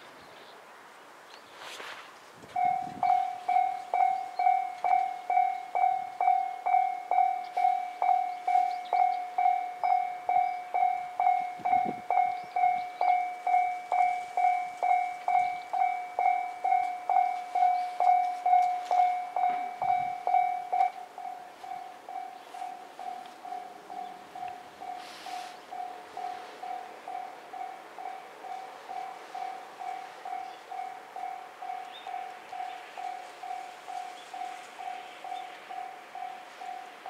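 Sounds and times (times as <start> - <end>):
faint warning bell: 2.5 - 37.0
level crossing warning bell: 2.5 - 37.0.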